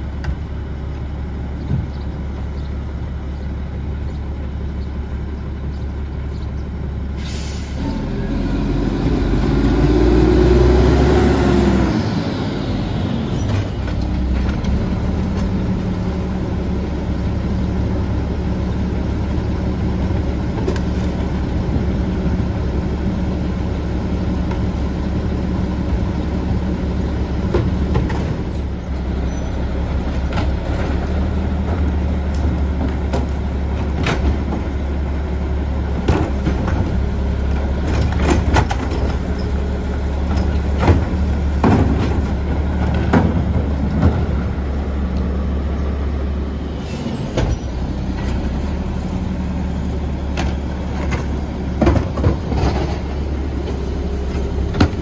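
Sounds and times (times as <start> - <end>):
diesel truck engine idling and revving: 0.0 - 55.0.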